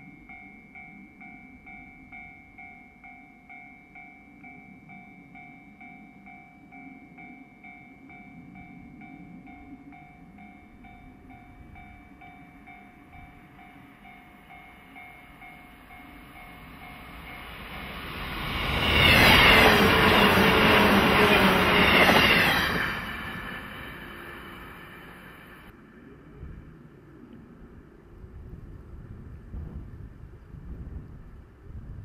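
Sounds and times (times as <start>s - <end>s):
electric train passing at speed: 0.0s - 25.9s.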